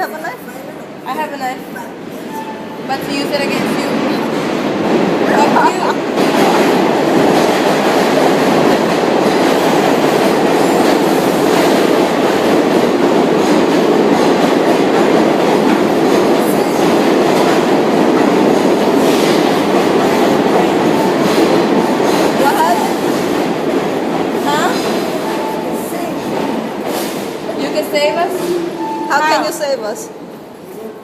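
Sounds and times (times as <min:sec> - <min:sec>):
train wheels rumbling on track: 0:00.0 - 0:30.7.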